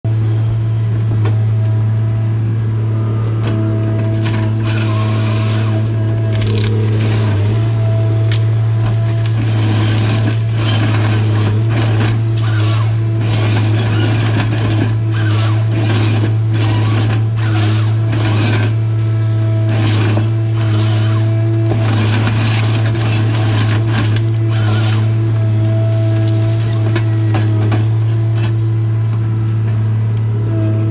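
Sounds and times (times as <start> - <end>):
harvester machine running: 0.0 - 30.9.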